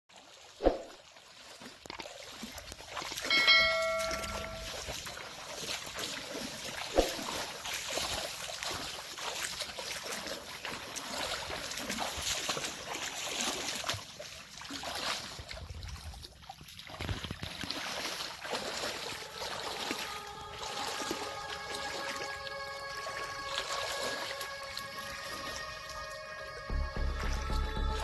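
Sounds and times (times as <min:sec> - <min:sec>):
feet wading through muddy water: 0:00.1 - 0:28.0.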